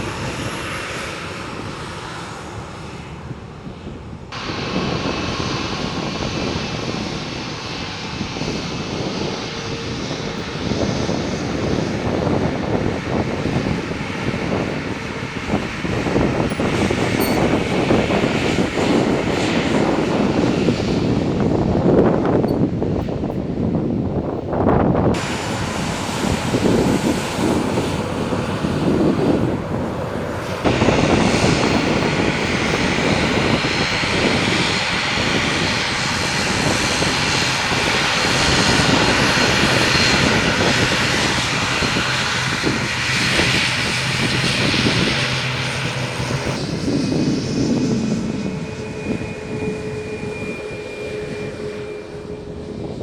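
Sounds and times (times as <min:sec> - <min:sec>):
jet airliner passing: 0:00.0 - 0:53.0.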